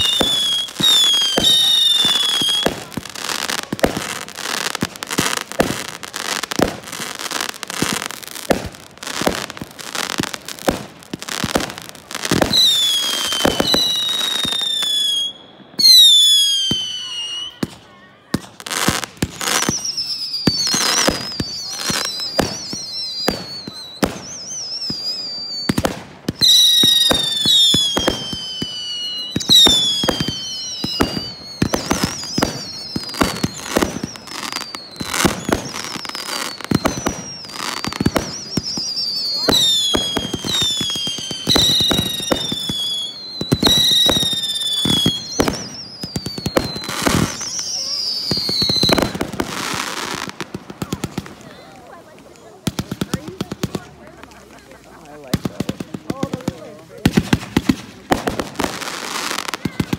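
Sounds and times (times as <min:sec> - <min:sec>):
whistling firework shells: 0:00.0 - 0:17.8, 0:18.4 - 0:51.7
fireworks bangs and crackles: 0:00.0 - 0:59.9.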